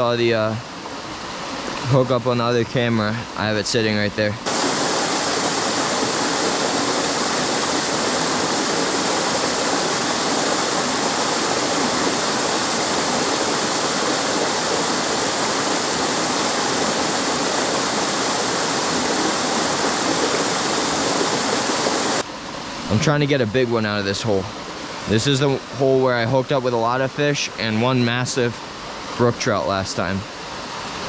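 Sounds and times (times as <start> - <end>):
small waterfall rushing: 0.0 - 31.0.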